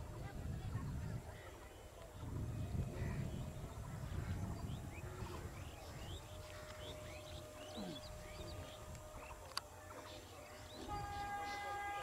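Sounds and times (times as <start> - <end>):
small birds chirping: 0.6 - 12.0
faint steady tone: 1.5 - 12.0.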